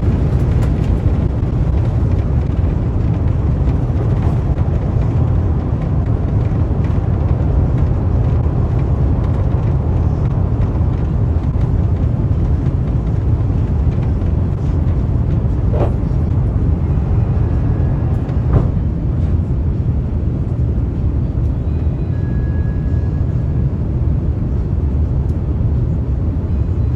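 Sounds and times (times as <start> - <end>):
airplane cabin engine rumble: 0.0 - 26.9.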